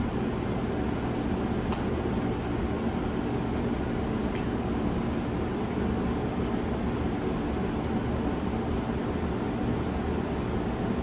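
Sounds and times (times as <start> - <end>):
room heater rushing: 0.0 - 11.0.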